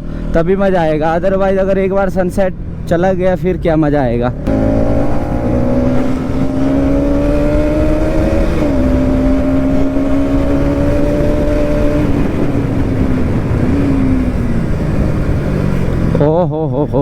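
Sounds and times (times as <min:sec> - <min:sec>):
wind and road noise: 0:00.0 - 0:17.0
motorcycle engine accelerating: 0:02.6 - 0:17.0.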